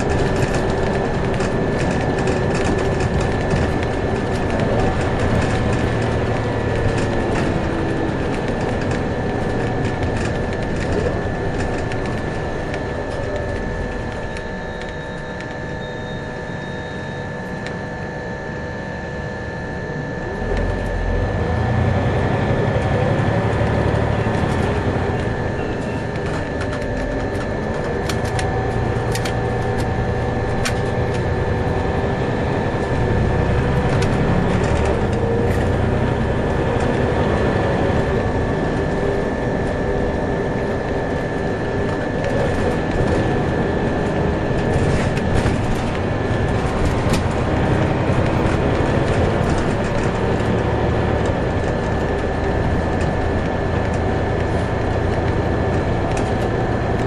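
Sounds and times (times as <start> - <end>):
interior clicks and rattles: 0.0 - 16.2, 22.2 - 57.0
bus engine and road rumble: 0.0 - 57.0
high whine: 0.0 - 57.0.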